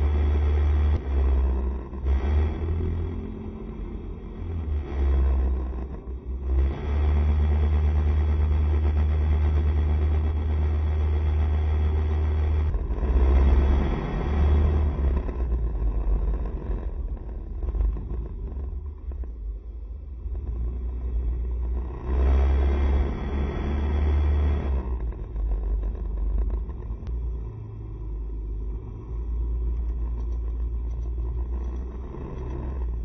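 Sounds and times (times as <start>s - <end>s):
wind and road noise: 0.0s - 33.0s.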